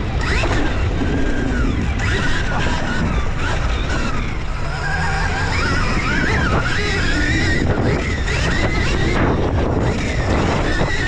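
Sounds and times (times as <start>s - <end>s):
dirt bike engine whine: 0.0s - 11.0s
wind rumble on microphone: 0.0s - 11.0s.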